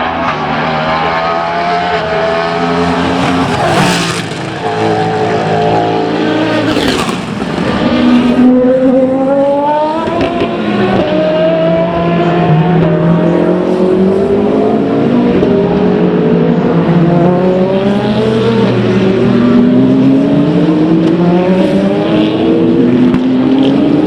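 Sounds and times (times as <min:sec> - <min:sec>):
race cars accelerating past: 0:00.0 - 0:24.0.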